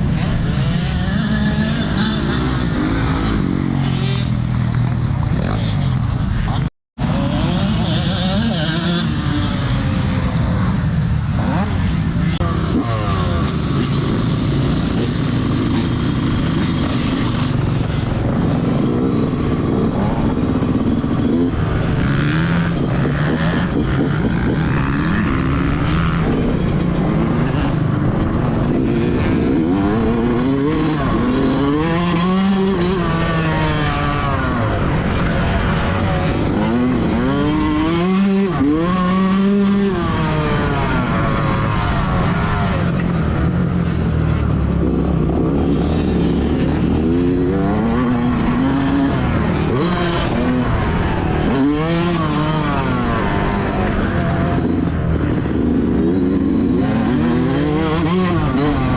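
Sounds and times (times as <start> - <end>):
motocross bike engines revving: 0.0 - 58.9.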